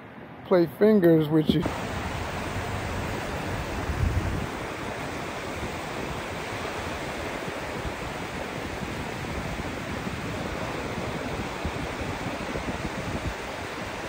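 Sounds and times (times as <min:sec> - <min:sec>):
wind on microphone: 0:01.5 - 0:14.0
small waves breaking on sand: 0:01.6 - 0:14.0.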